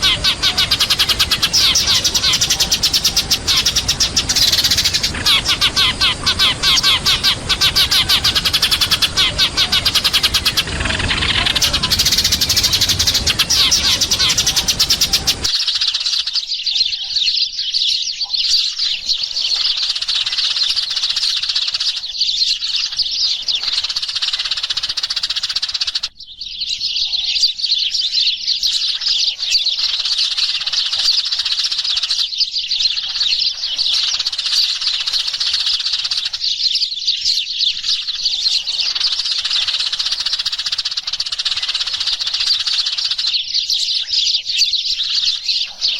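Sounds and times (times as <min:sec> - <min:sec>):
sparrows chirping: 0:00.0 - 0:45.9.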